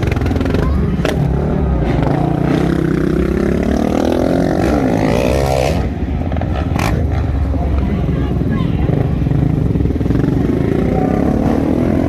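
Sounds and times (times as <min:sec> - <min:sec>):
motorcycle engine revving: 0:00.0 - 0:07.8, 0:08.4 - 0:12.0.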